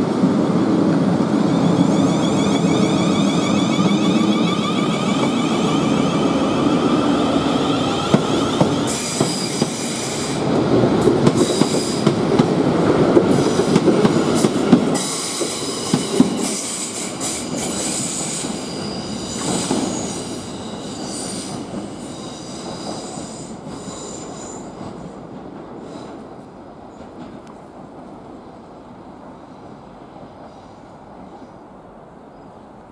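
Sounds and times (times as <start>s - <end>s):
train wheels rumbling on rail: 0.0s - 31.8s
high steady train whine: 0.0s - 32.9s.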